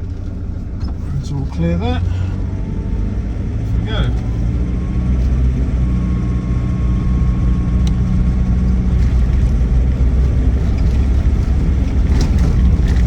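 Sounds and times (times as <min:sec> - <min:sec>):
diesel engine pulling away: 0:00.0 - 0:13.0
road noise: 0:00.0 - 0:13.0.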